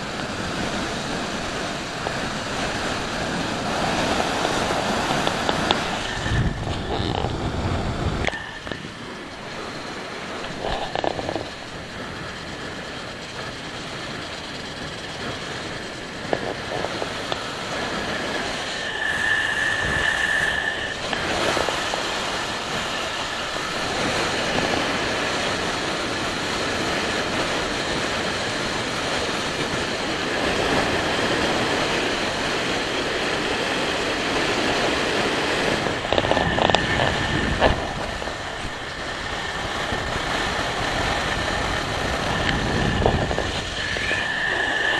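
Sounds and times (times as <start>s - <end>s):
motorcycle engine and wind noise: 0.0s - 44.9s
thin whine: 0.0s - 44.9s.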